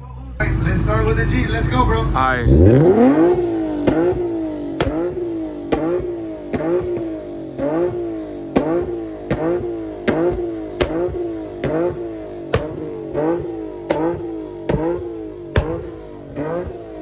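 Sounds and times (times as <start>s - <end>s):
car engine revving: 0.4s - 17.0s.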